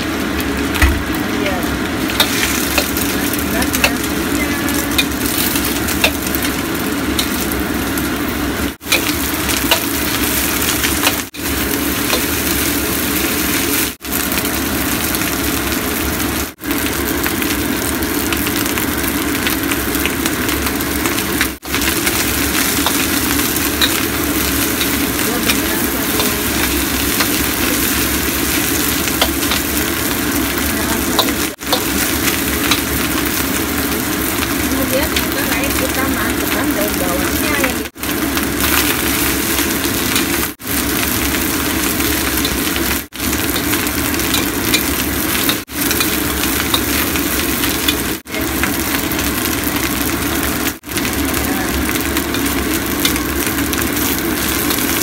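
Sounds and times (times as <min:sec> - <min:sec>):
rice sizzling in a wok: 0:00.0 - 0:55.0.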